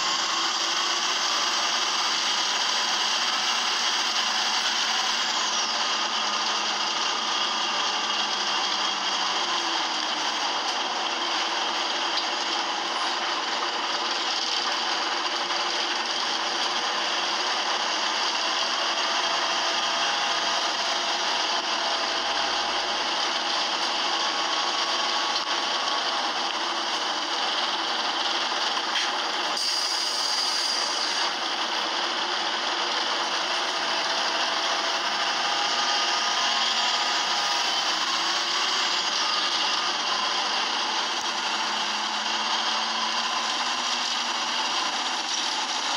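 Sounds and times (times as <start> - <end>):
rasping bus engine: 0.0 - 45.9.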